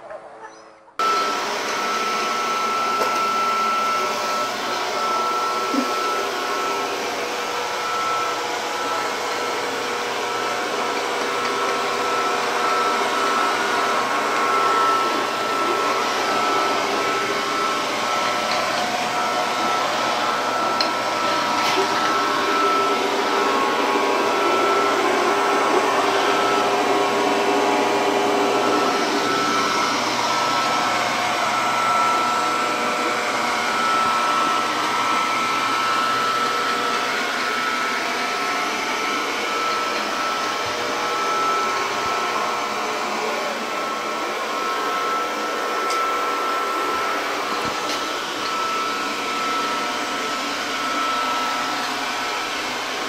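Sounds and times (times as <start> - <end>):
robot vacuum cleaner motor hum: 1.0 - 53.0.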